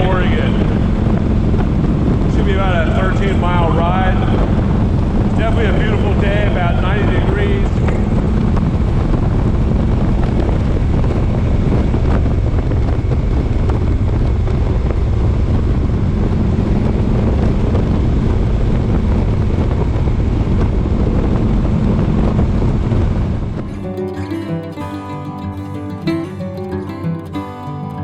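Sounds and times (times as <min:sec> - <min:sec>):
motorcycle engine drone: 0:00.0 - 0:24.9
wind buffeting microphone: 0:00.0 - 0:24.9
road noise: 0:00.0 - 0:25.0.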